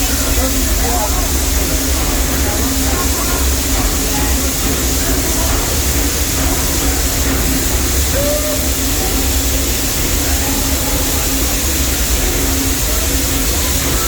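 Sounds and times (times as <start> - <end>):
steam train rumble: 0.0 - 14.0.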